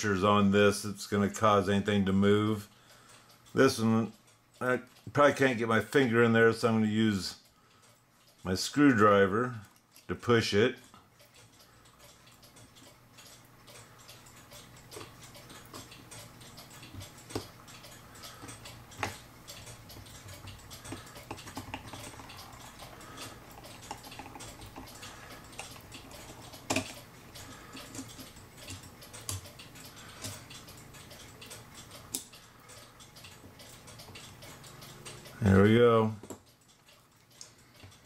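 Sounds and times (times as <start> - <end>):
clock movement clicking: 0.0 - 38.0.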